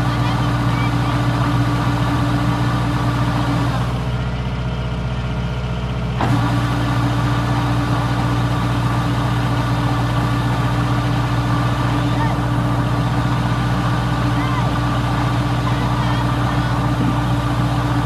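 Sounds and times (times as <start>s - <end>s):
combine harvester diesel engine running: 0.0s - 18.0s.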